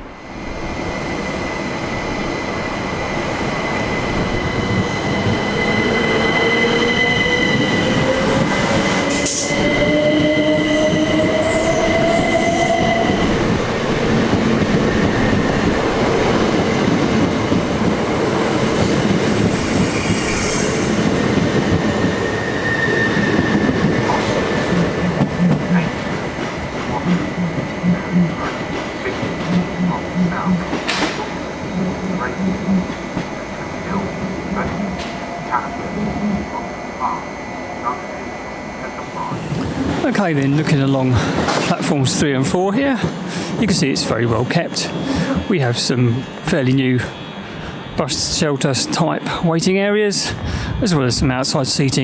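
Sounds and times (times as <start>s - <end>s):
electric train motors whining: 0.0s - 51.8s
wheel-on-rail noise: 0.0s - 51.8s.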